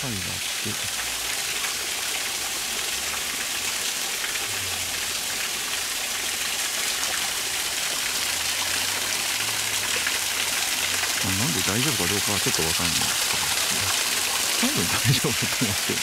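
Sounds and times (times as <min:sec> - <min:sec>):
waterfall splashing onto rocks: 0:00.0 - 0:16.0.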